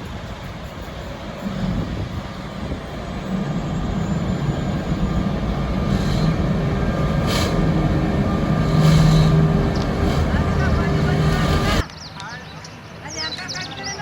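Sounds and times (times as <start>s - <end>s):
freight train wagons rumbling: 0.0s - 11.8s.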